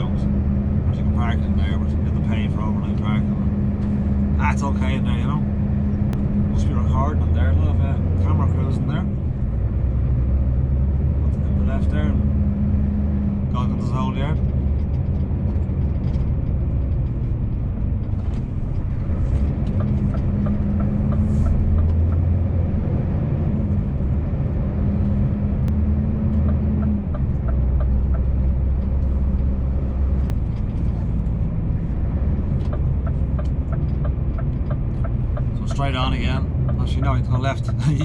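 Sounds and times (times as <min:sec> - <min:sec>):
truck engine from inside cab: 0:00.0 - 0:38.0.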